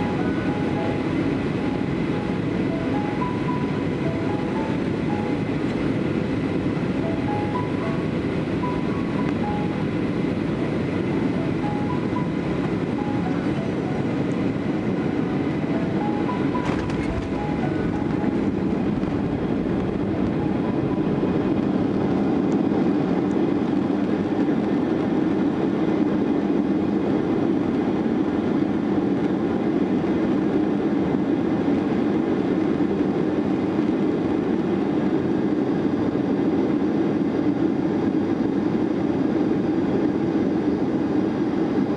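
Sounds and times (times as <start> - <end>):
airliner engine roar in cabin: 0.0 - 41.9.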